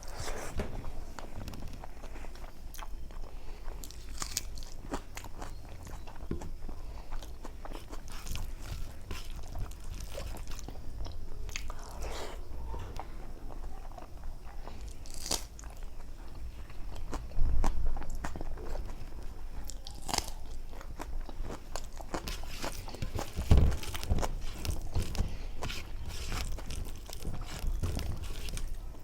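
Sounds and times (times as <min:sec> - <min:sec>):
wet chewing and mouth smacks: 0:01.1 - 0:29.0.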